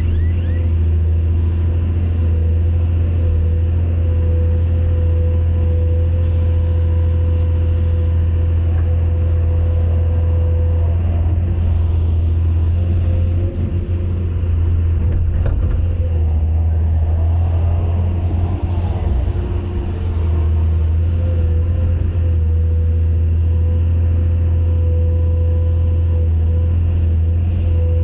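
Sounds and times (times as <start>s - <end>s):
excavator diesel engine droning: 0.0s - 28.0s
steady whine: 0.0s - 28.0s.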